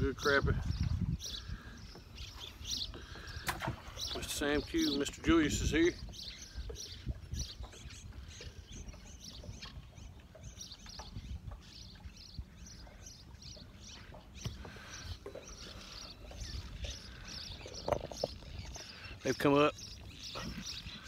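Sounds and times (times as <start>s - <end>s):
water lapping against boat hull: 0.0s - 21.0s.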